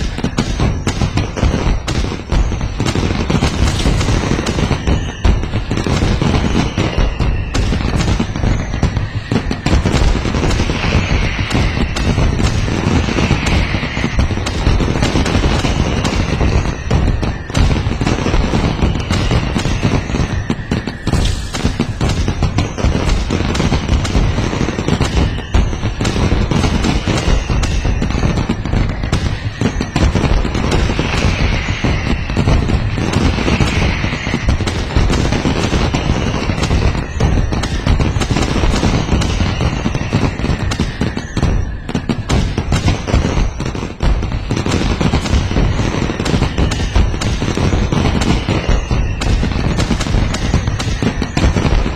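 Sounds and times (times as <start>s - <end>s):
faint falling whistles: 0.0s - 51.9s
fireworks bangs and crackling: 0.0s - 51.9s.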